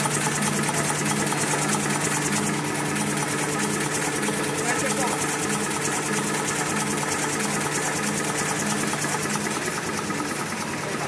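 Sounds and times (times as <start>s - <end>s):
tissue folding machine running: 0.0s - 11.0s.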